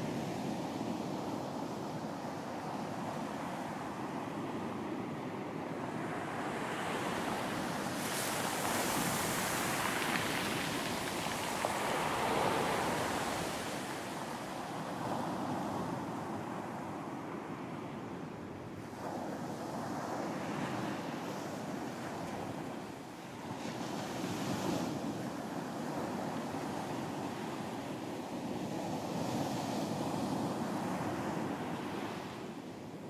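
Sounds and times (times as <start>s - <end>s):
waves breaking on a beach: 0.0s - 33.0s.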